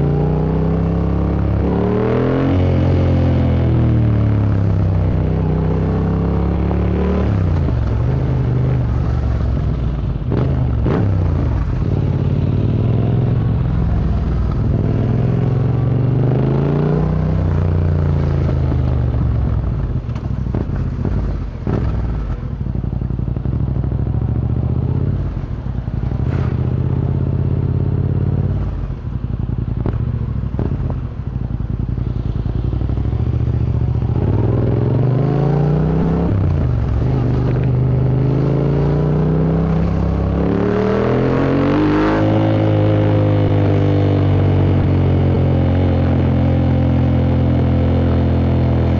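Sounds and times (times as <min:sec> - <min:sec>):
motorcycle engine revving while riding: 0:00.0 - 0:48.9.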